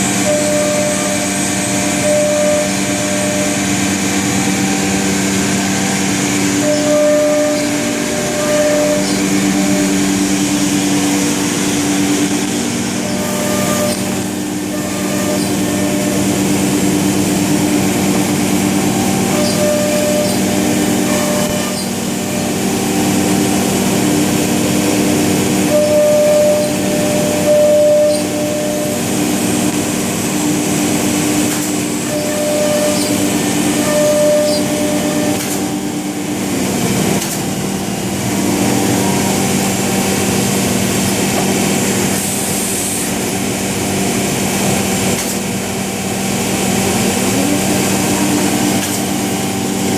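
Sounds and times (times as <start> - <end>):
router machine cutting wood: 0.0 - 49.9.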